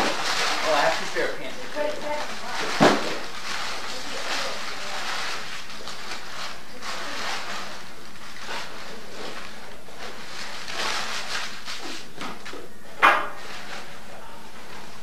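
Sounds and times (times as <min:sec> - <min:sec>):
gift wrap rustling: 0:00.0 - 0:12.8, 0:13.4 - 0:15.0.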